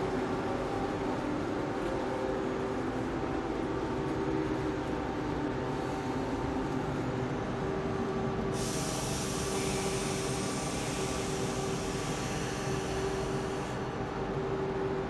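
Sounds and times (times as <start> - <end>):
train car hum and rumble: 0.0 - 15.0.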